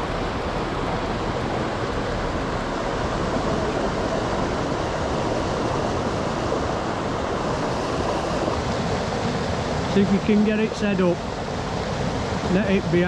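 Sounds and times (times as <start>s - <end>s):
fast-flowing river water rushing: 0.0s - 13.0s.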